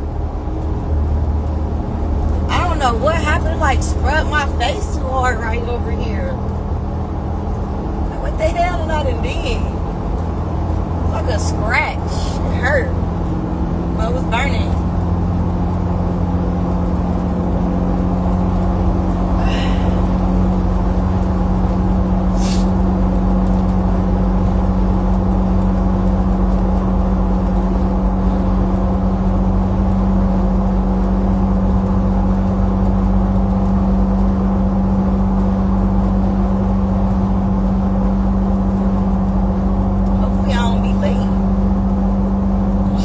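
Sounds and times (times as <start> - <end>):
car cabin drone: 0.0 - 43.0.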